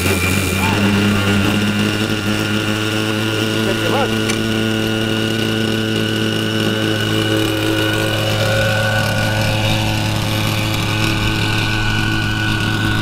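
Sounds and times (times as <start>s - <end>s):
model helicopter engine idling: 0.0s - 13.0s.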